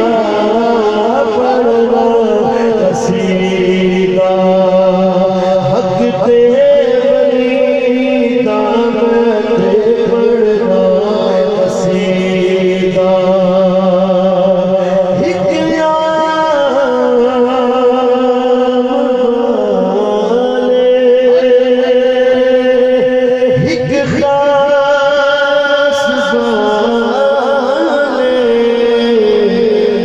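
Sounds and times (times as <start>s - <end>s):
man chanting over a pa: 0.0s - 30.0s.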